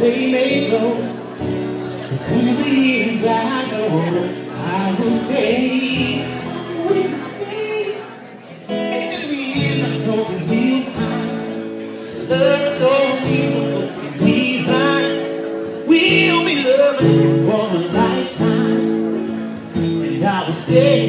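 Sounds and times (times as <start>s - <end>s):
guitar: 0.0s - 21.0s
person singing: 0.0s - 21.0s.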